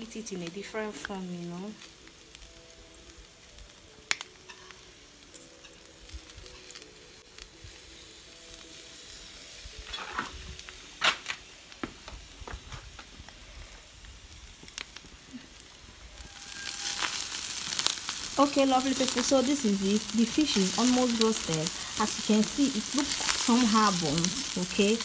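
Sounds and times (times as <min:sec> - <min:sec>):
fish sizzling on a grill: 0:00.0 - 0:25.0.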